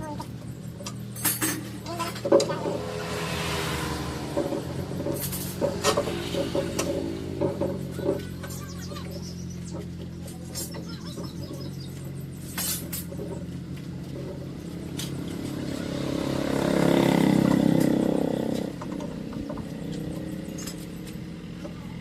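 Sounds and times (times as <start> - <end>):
low engine hum: 0.0 - 22.0
motor vehicle passing by: 0.0 - 22.0.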